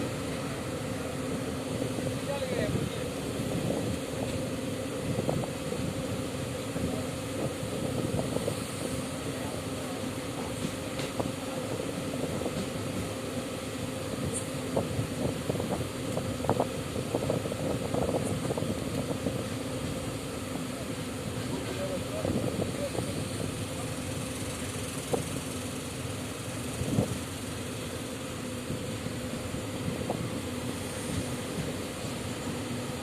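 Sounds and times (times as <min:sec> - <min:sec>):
train low hum: 0:00.0 - 0:33.0.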